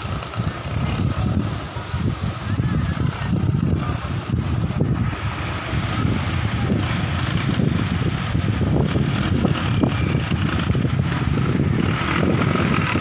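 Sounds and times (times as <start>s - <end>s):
vehicle rumble: 0.0s - 13.0s
wind buffeting microphone: 0.0s - 13.0s.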